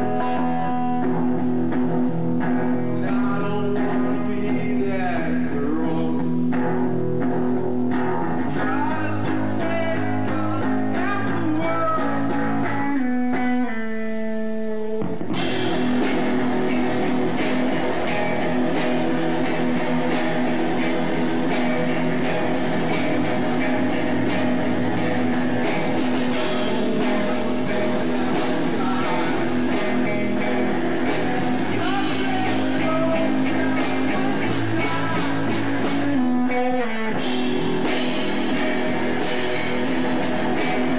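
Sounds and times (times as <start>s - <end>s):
drum kit: 0.0s - 40.9s
electric guitars playing: 0.0s - 40.9s.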